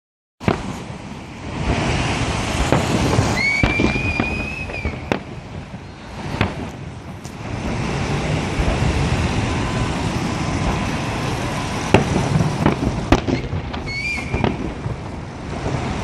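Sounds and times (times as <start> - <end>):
fireworks rumble: 0.4 - 16.0
high firework whistle: 0.4 - 16.0
sharp fireworks bangs: 0.4 - 16.0.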